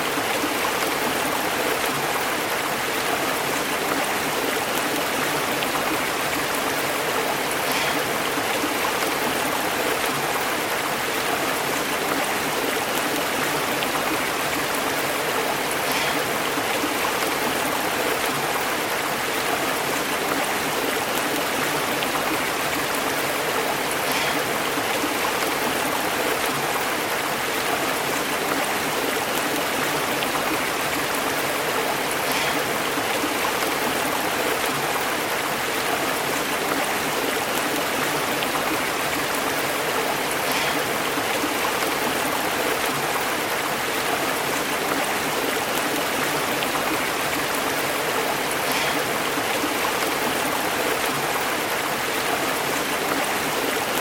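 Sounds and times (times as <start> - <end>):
stream burbling over rocks: 0.0 - 54.0.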